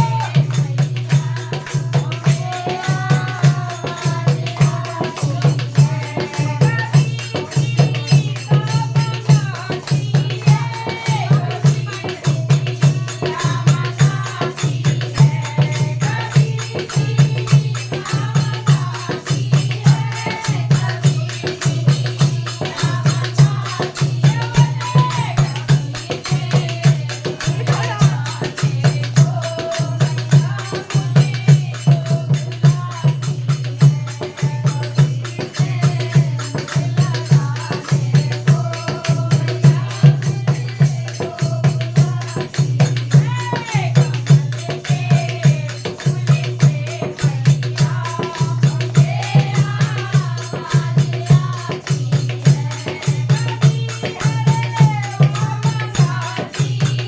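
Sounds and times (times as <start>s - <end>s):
devotional singing: 0.0s - 57.0s
jingling percussion: 0.0s - 57.0s
steady drum beat: 0.0s - 57.0s.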